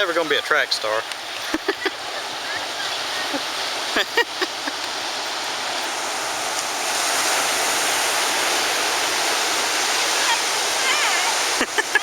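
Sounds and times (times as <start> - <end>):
ocean surf washing ashore: 0.0 - 12.0.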